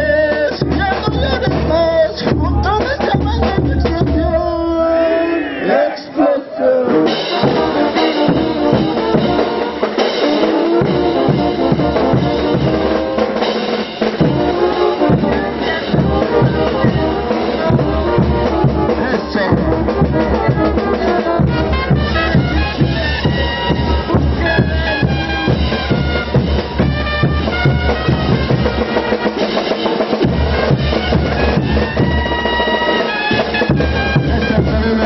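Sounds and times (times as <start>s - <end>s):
steady drum beat: 0.0s - 5.2s, 6.9s - 35.0s
wind instruments playing melody: 6.7s - 35.0s.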